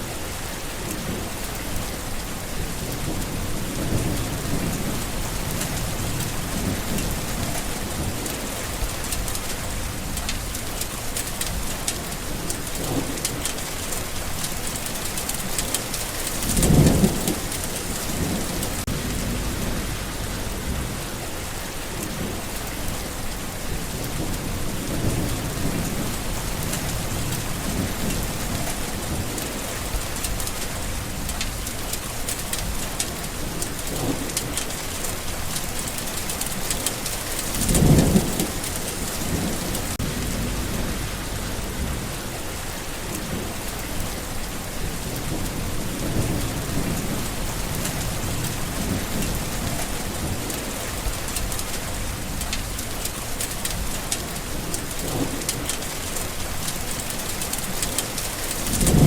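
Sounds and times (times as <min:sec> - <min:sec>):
rain pattering: 0:00.0 - 0:59.0
distant thunder rolling: 0:02.5 - 0:10.8, 0:11.4 - 0:31.9, 0:32.5 - 0:53.0, 0:57.7 - 0:59.0.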